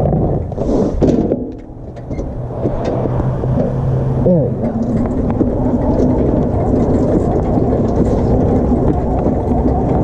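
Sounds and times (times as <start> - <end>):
go-kart engine running: 0.0 - 10.0
rumbling background: 0.0 - 10.0.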